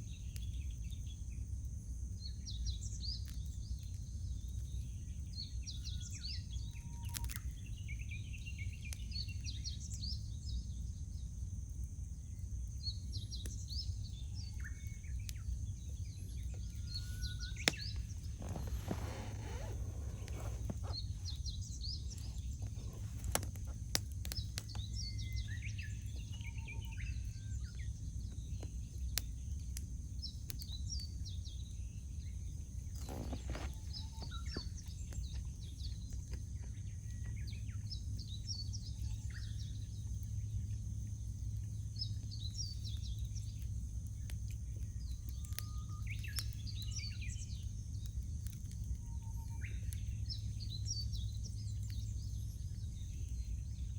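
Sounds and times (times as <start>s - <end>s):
campfire crackling and popping: 0.0s - 53.9s
small birds chirping: 0.0s - 53.9s.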